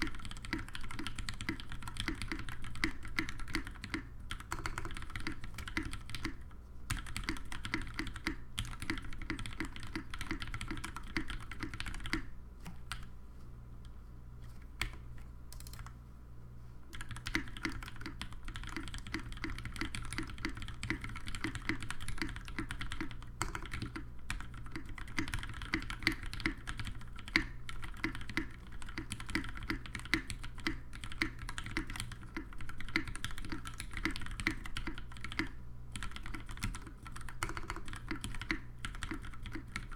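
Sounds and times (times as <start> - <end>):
mechanical keyboard typing: 0.0 - 13.1, 14.8 - 16.0, 16.9 - 39.9.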